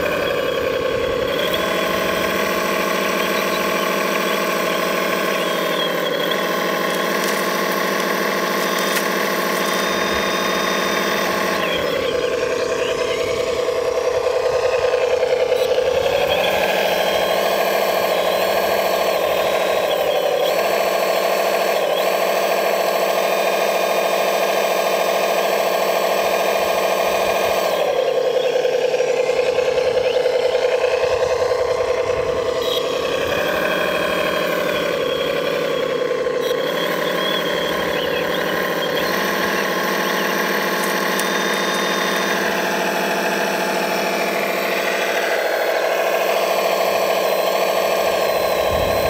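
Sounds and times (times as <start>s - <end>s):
model engine droning: 0.0s - 49.0s.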